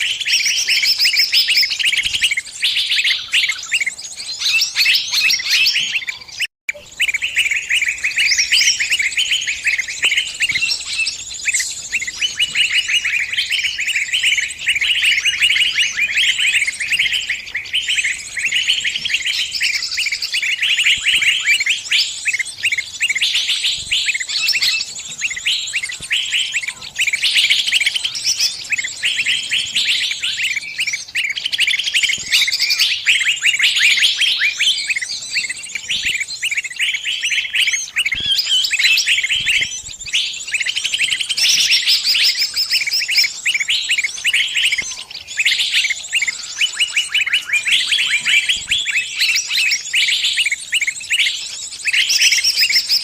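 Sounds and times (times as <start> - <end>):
small birds chirping rapidly: 0.0 - 53.0.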